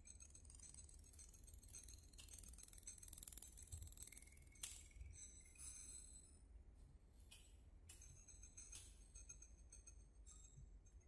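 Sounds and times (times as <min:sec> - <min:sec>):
faint high tinkling: 0:00.0 - 0:11.0.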